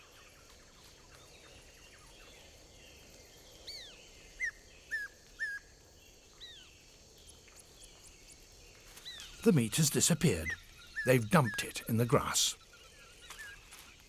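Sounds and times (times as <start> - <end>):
faint outdoor background hiss: 0.0 - 13.2.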